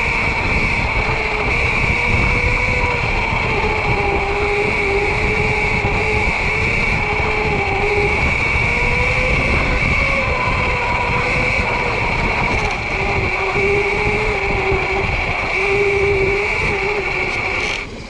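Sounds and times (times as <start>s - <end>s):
constant high whine: 0.0s - 18.0s
electric motor whine: 0.0s - 18.0s
low rumbling noise: 0.0s - 18.0s.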